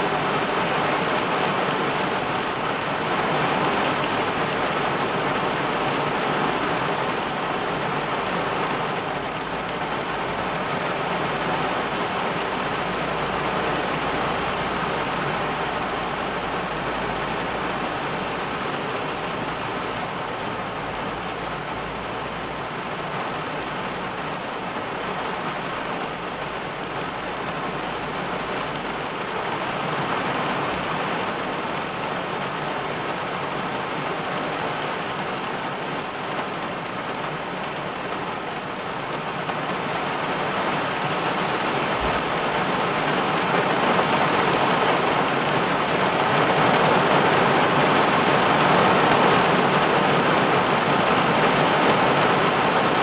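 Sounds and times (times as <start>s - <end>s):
heavy rain on car roof: 0.0s - 53.0s.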